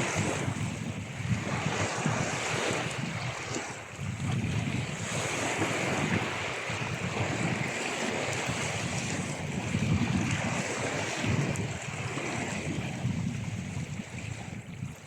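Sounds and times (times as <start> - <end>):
sea waves washing onto shore: 0.0 - 15.0.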